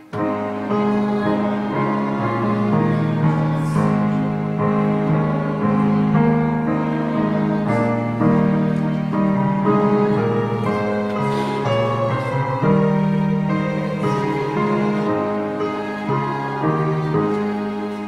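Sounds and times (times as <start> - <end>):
church keyboard playing a hymn: 0.0 - 18.0.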